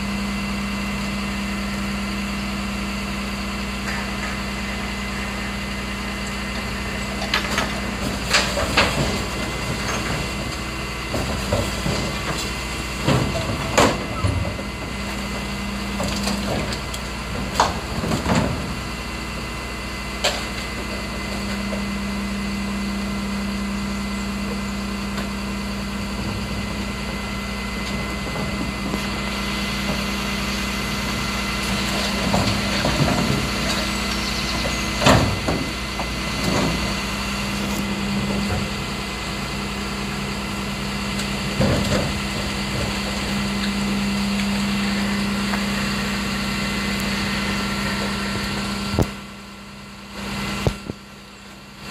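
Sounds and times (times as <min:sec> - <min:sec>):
garbage truck engine running: 0:00.0 - 0:51.9
hydraulics humming: 0:00.0 - 0:51.9.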